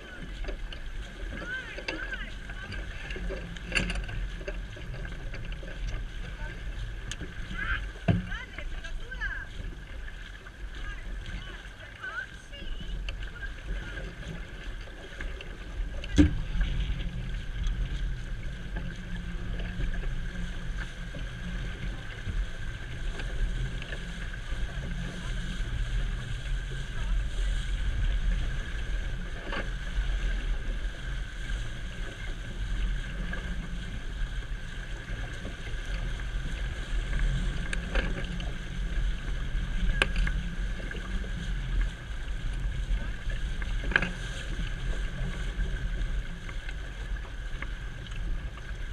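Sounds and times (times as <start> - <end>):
water rushing along boat hull: 0.0 - 48.9.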